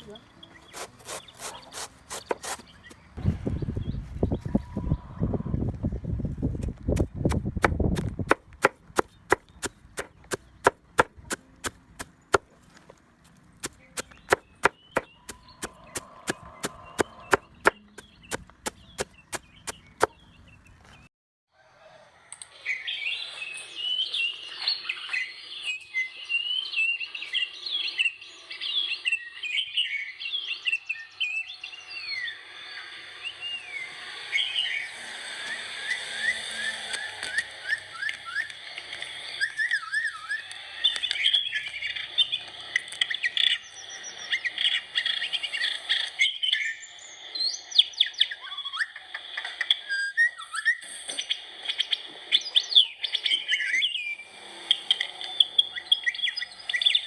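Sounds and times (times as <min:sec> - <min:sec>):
small birds chirping: 0:00.0 - 0:21.1, 0:21.8 - 0:57.0.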